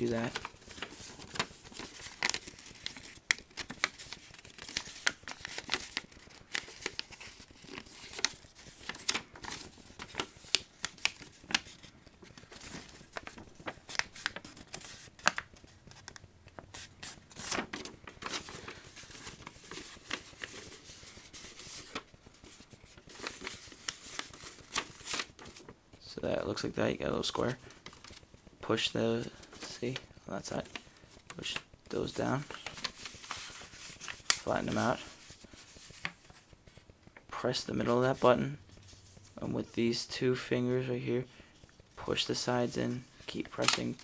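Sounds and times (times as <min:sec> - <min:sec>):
paper crinkling and crackling: 0:00.0 - 0:44.0.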